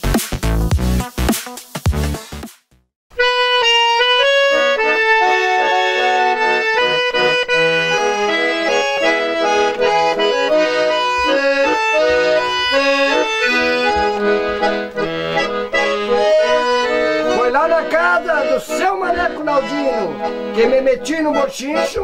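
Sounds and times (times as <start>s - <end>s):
accordion music: 3.1s - 22.0s.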